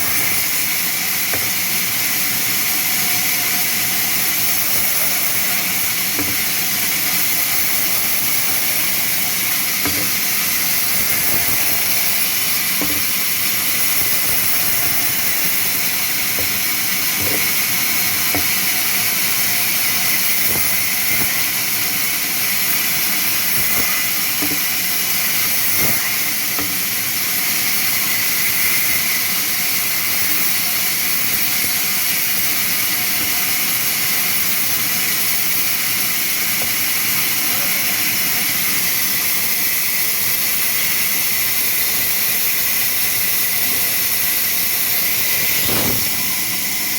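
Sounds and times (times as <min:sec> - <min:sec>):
sawmill machine hissing: 0:00.0 - 0:39.3, 0:42.4 - 0:46.9.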